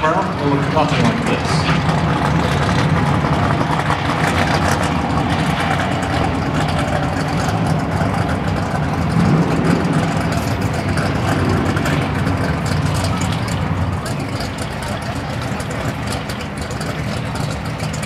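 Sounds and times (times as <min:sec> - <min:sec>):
race car engine idling: 0:00.0 - 0:18.0.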